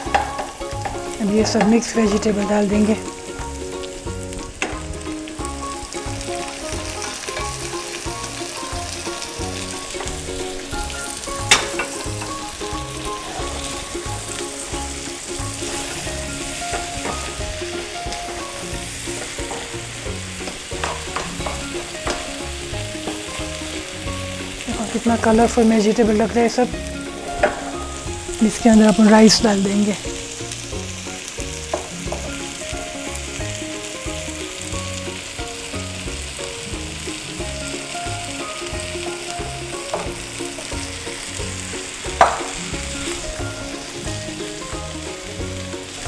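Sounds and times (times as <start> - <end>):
vegetables sizzling in butter: 0.0 - 46.0.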